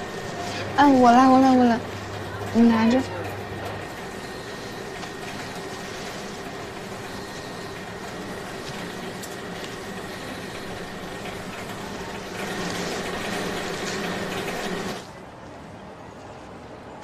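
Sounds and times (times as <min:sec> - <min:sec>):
airport terminal hum: 0:00.0 - 0:17.0
faint machine drone: 0:00.0 - 0:17.0.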